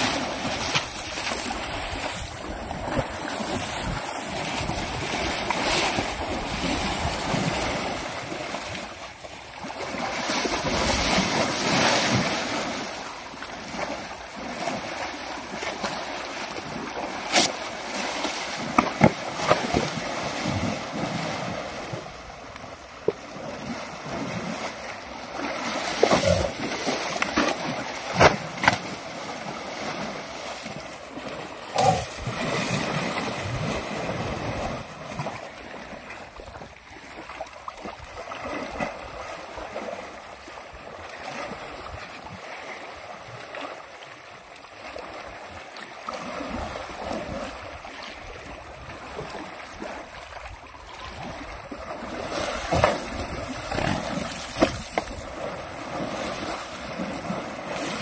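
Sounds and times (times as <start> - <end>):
elephant splashing in water: 0.0 - 8.9, 9.6 - 22.2, 23.1 - 36.1, 44.8 - 58.0.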